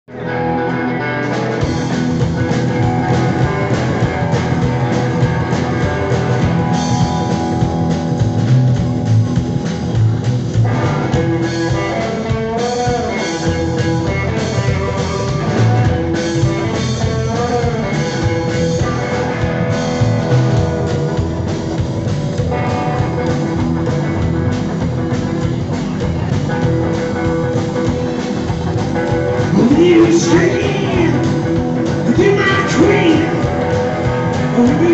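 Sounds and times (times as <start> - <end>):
rock and roll band playing: 0.1 - 34.9.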